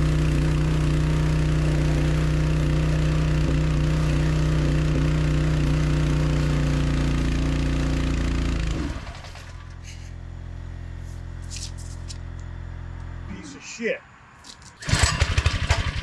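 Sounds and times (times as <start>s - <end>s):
small gasoline engine running: 0.0s - 13.3s, 14.8s - 16.0s.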